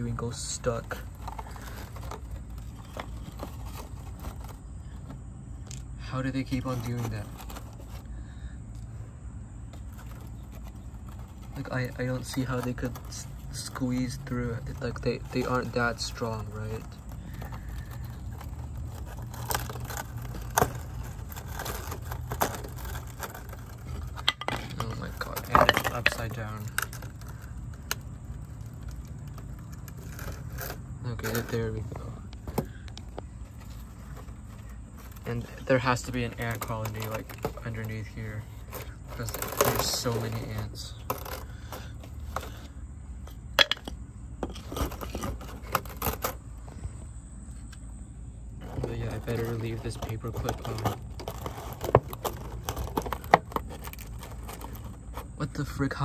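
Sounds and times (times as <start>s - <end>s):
plastic mesh crackling: 0.0s - 8.2s, 9.8s - 42.7s, 44.4s - 46.9s, 48.6s - 55.8s
low steady rumble: 0.0s - 56.0s.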